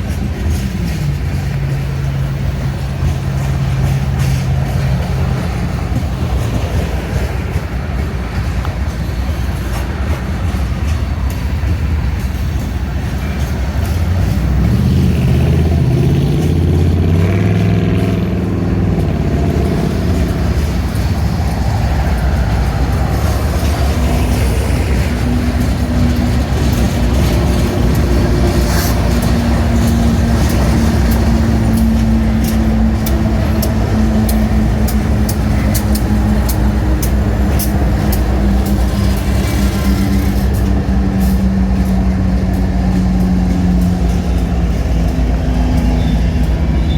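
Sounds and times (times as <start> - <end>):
train rumbling past: 0.0 - 46.9
wheels clicking over rail joints: 0.0 - 46.9.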